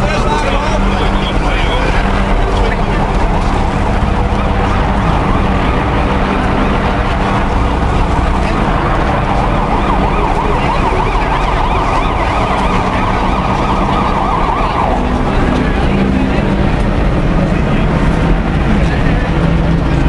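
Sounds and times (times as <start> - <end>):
siren warbling yelp: 0.0 - 17.2
crowd noise: 0.0 - 20.0
low engine hum: 0.0 - 20.0.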